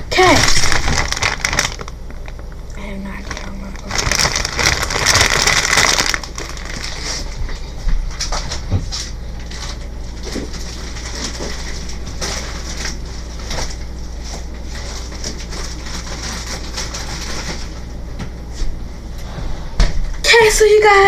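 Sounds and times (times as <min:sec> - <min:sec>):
steady low hum: 0:00.0 - 0:21.0
packaging crinkling and rustling: 0:00.1 - 0:18.0.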